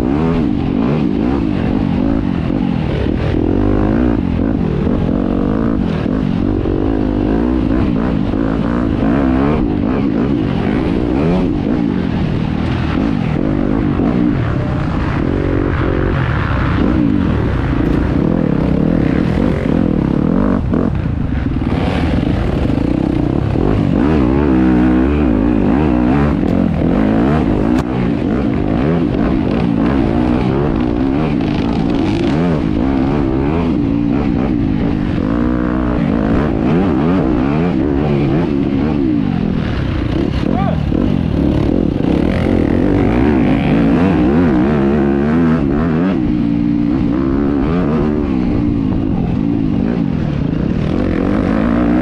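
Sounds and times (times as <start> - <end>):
dirt bike engine revving: 0.0 - 52.0
rattling and scraping from bike: 0.4 - 47.3.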